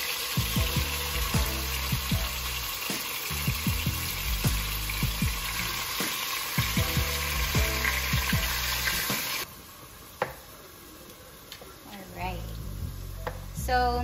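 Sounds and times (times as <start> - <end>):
chicken sizzling in hot oil: 0.0 - 13.3.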